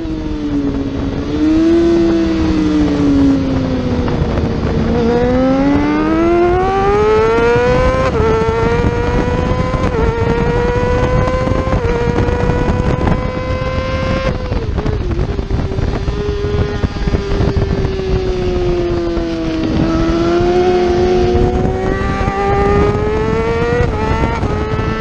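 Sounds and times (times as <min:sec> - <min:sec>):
wind rushing: 0:00.0 - 0:25.0
motorcycle engine revving hard: 0:01.0 - 0:25.0.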